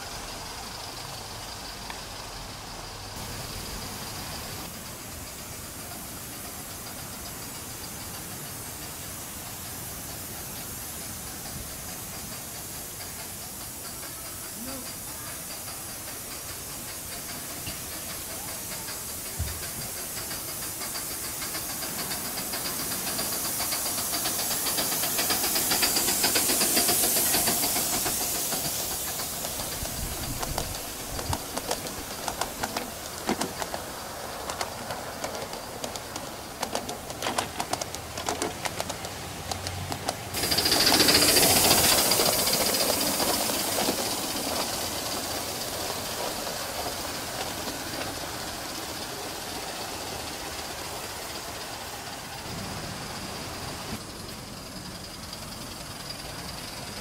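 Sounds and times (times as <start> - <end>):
steam hissing: 0.0 - 57.0
train wheels clicking on track: 0.0 - 57.0.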